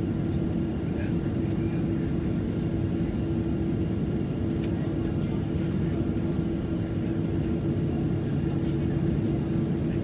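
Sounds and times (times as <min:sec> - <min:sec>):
jet engines idling in cabin: 0:00.0 - 0:10.0.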